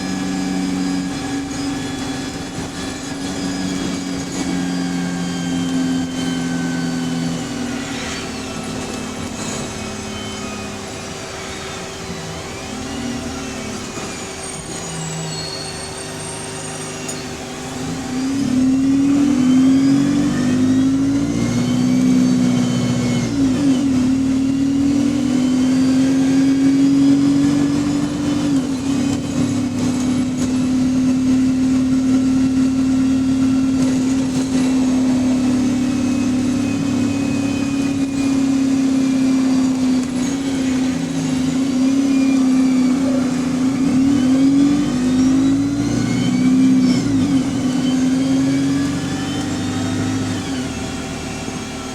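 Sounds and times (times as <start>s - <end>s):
bus gearbox whine: 0.0s - 51.9s.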